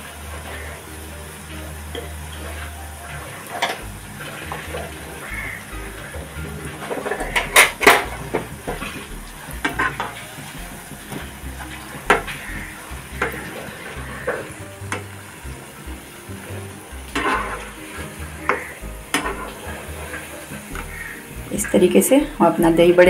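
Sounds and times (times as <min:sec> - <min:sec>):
food deep-frying in oil: 0:00.0 - 0:23.0.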